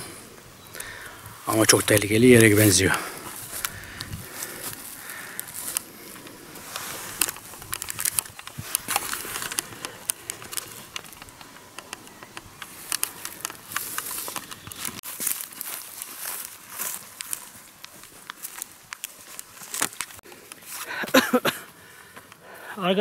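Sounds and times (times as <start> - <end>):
footsteps on leaves and twigs: 0.6 - 22.6.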